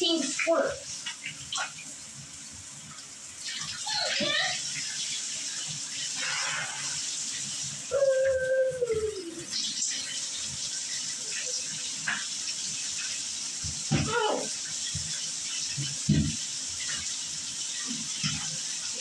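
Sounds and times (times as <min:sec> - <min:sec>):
shower water hissing: 0:00.0 - 0:19.0.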